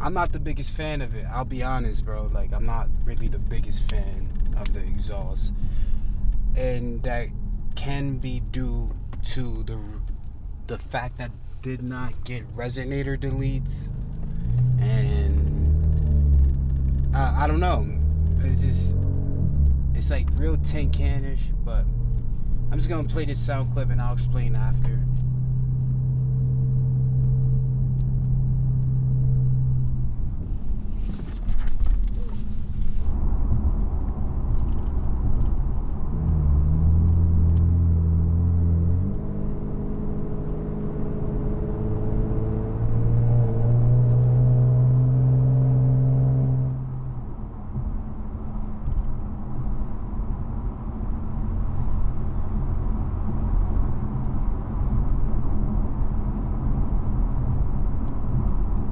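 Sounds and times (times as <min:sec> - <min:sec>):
low exhaust drone: 0:00.0 - 0:58.9.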